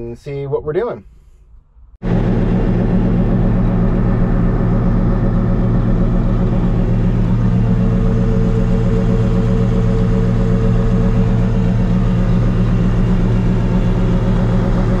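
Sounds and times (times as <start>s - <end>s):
combine harvester engine drone: 2.0s - 15.0s.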